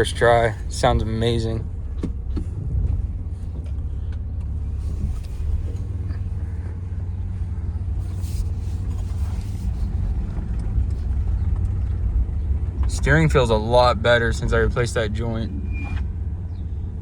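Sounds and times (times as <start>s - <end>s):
engine droning: 0.0s - 17.0s
road noise: 0.0s - 17.0s.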